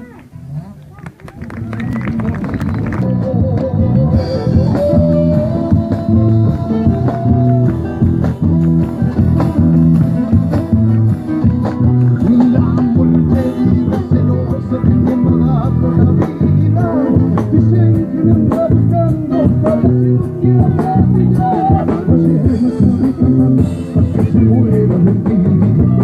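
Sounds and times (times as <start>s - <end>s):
live band playing guitar music: 1.4s - 26.0s.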